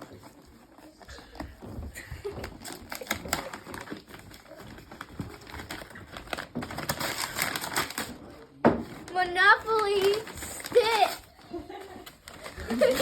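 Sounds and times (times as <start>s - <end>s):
wrapping paper tearing and crinkling: 2.3s - 13.0s.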